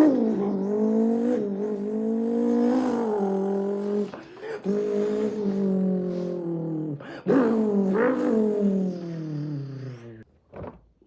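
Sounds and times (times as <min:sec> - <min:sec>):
man imitating engine revving: 0:00.0 - 0:10.2.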